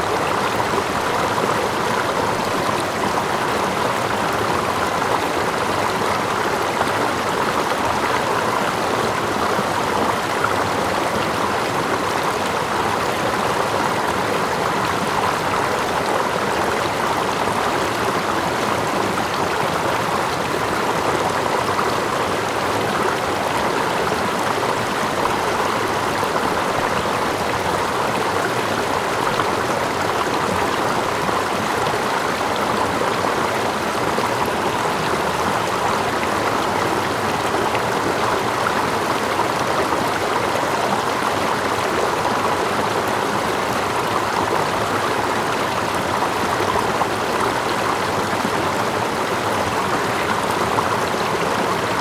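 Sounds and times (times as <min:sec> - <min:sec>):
stream flowing water: 0:00.0 - 0:52.0.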